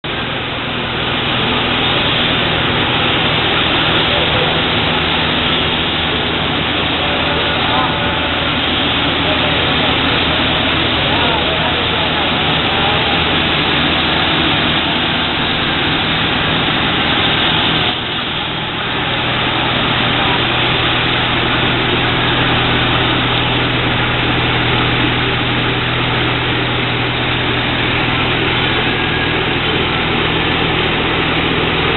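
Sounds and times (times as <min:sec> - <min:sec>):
twine twister machine running: 0:00.1 - 0:31.9.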